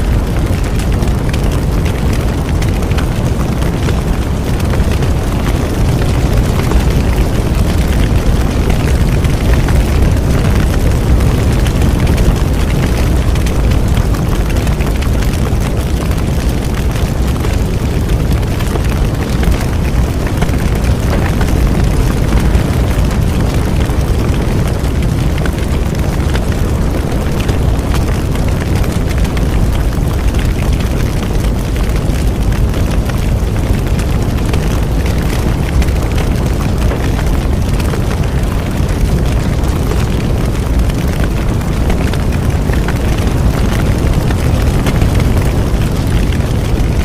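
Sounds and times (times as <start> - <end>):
fire crackling: 0.0 - 47.0
roar of bonfire flames: 0.0 - 47.0.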